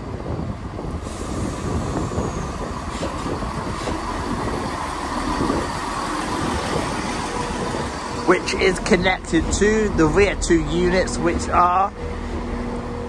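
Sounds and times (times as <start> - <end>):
diesel train engines rumbling: 0.0 - 13.0
train wheels on rails: 0.0 - 13.0.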